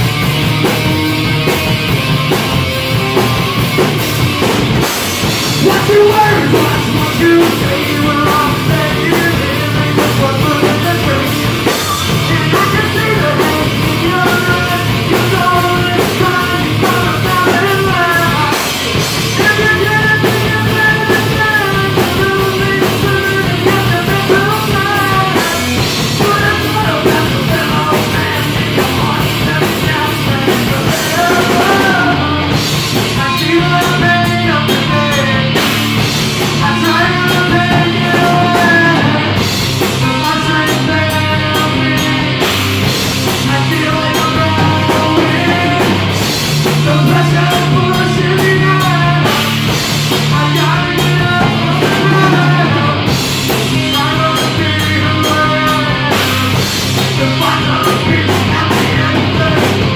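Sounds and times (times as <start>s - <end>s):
bass guitar: 0.0s - 59.9s
drum kit: 0.0s - 59.9s
electric guitar: 0.0s - 59.9s
person singing: 5.2s - 59.9s.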